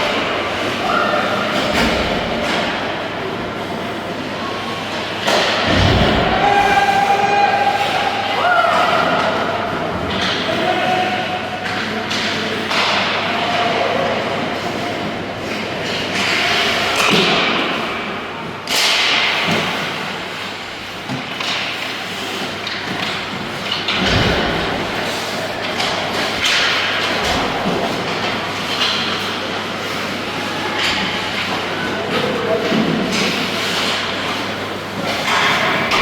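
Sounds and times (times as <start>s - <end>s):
children playing in echoing hall: 0.0s - 36.0s.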